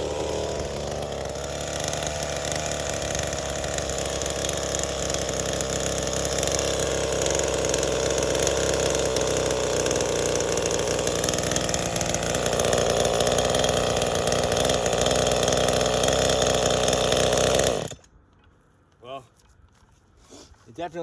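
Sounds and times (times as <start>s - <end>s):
chainsaw engine running: 0.0s - 18.1s.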